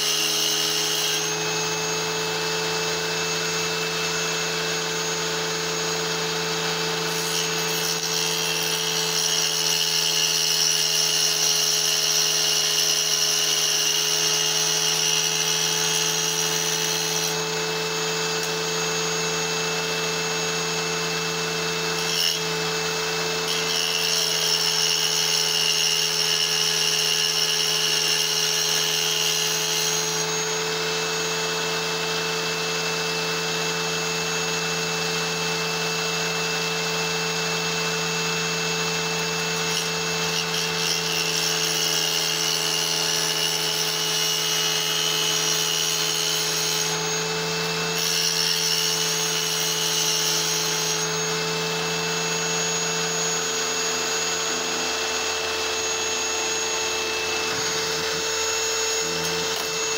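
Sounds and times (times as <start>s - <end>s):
high grinding whine of blade on stone: 0.0s - 59.9s
tile saw motor humming: 0.0s - 59.9s.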